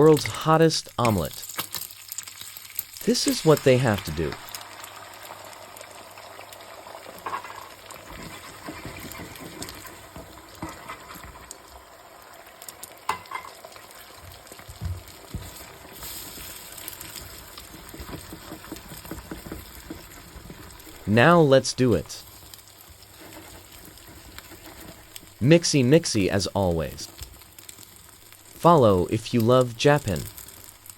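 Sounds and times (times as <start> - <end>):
food sizzling in frying pan: 0.9 - 30.9.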